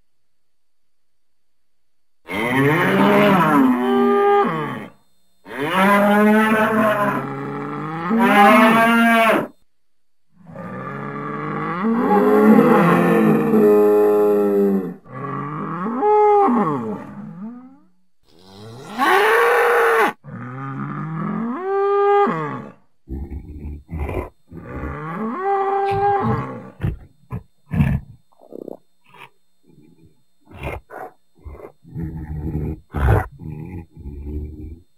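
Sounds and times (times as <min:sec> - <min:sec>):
bull mooing: 0:02.3 - 0:09.6, 0:10.4 - 0:34.9.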